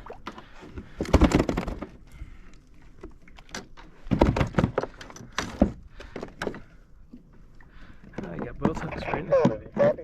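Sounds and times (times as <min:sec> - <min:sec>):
fishing gear rattling on plastic kayak: 0:00.2 - 0:06.8, 0:07.9 - 0:10.0.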